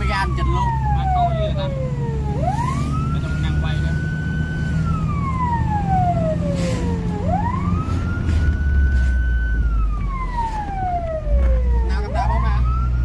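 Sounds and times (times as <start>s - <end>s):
fire engine siren wailing: 0.0s - 13.0s
truck engine droning: 0.0s - 13.0s.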